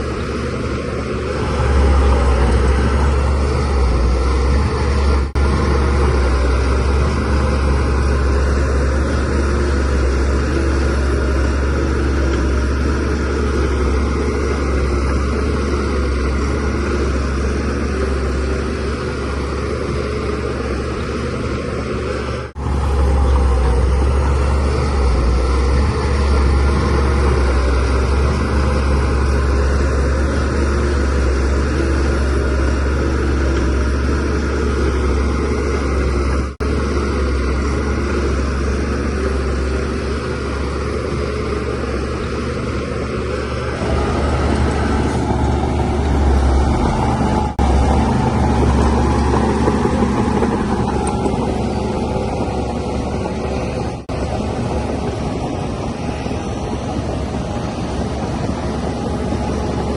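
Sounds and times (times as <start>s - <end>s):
bulldozer diesel engine droning: 0.0s - 59.9s.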